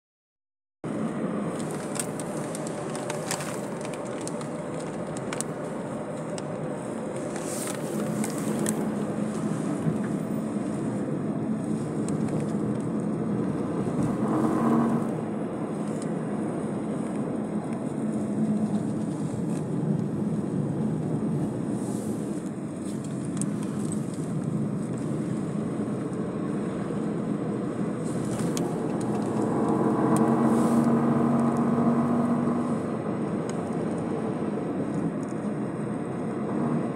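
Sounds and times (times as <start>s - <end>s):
car engine: 0.8s - 36.9s
tyre road noise: 0.8s - 36.9s
wind noise: 1.6s - 36.9s.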